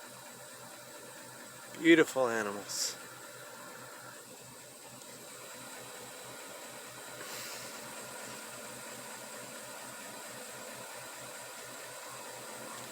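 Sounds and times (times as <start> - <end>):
faint outdoor hiss: 0.0 - 12.9.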